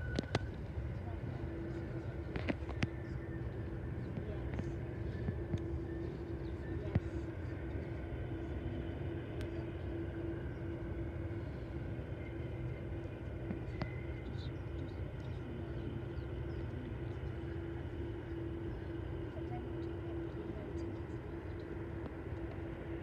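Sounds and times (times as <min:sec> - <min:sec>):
distant jet rumble: 0:00.0 - 0:23.0
low hum: 0:00.0 - 0:23.0.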